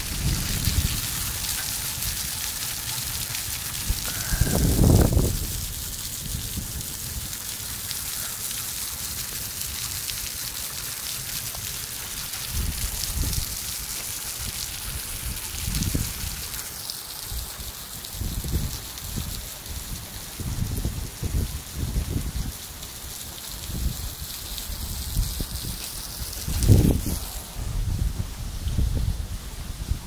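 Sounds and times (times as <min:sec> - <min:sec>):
heavy rain on wet pavement: 0:00.0 - 0:30.0
water streaming off roof: 0:00.0 - 0:30.0.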